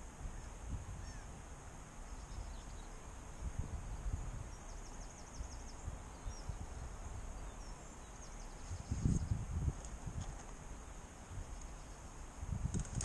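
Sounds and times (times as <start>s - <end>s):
small birds chirping: 0.0s - 1.4s, 2.0s - 13.0s.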